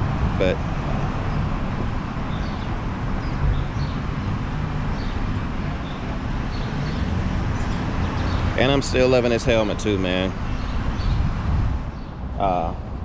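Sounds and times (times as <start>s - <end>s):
engine rumbling on the move: 0.0s - 13.0s
road and wind noise: 0.0s - 13.0s.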